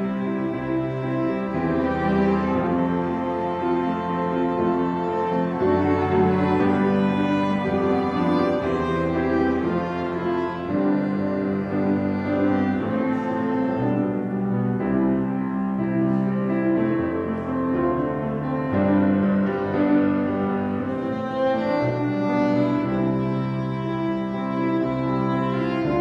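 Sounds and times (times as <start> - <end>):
piano quartet playing slow piece: 0.0 - 26.0.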